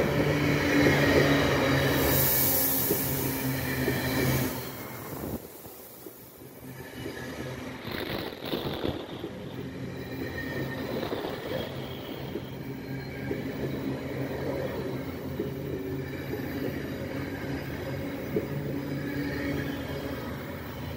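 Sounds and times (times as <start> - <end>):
train wheels rumbling on rail: 0.0 - 20.9.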